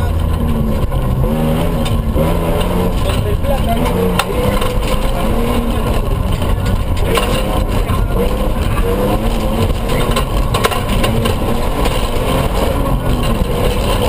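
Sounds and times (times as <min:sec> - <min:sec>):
car engine revving: 0:00.0 - 0:14.0
tyres rumbling on gravel: 0:00.0 - 0:14.0.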